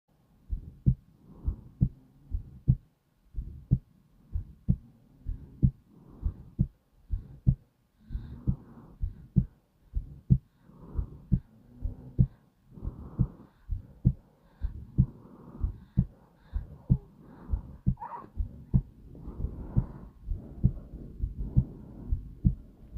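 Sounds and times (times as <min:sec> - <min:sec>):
heartbeat thumps: 0:00.4 - 0:22.9.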